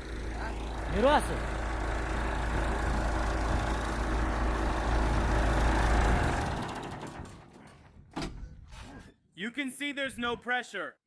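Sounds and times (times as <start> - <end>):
backhoe engine rumbling: 0.0 - 9.0.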